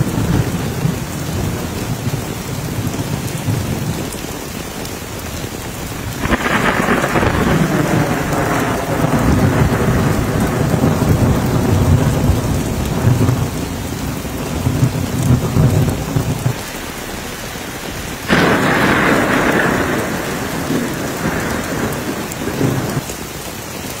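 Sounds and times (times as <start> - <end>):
thunder rumbling: 0.0 - 23.1
heavy rain falling: 0.0 - 24.0.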